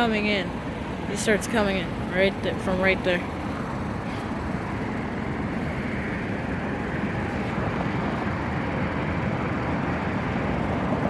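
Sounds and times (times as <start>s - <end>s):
low rumble of vehicles: 0.0s - 11.0s.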